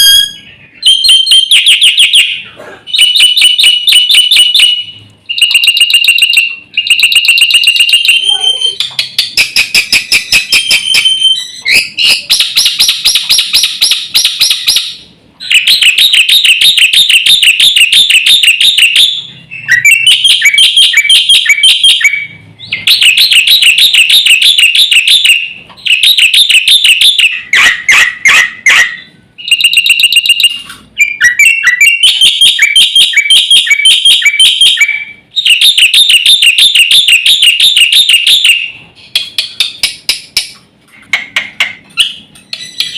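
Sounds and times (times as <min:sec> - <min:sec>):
starling singing: 0:00.0 - 0:39.9, 0:41.9 - 0:42.9.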